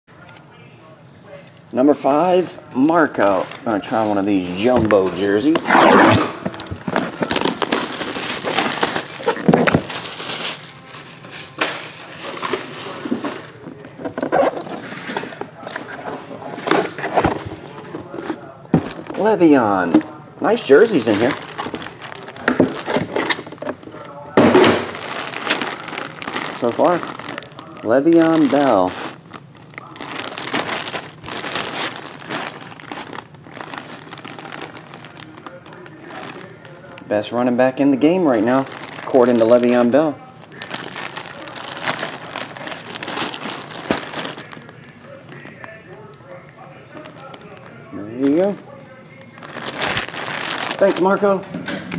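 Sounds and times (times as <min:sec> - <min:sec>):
crinkling wrapper: 0:06.4 - 0:24.2, 0:24.8 - 0:51.5.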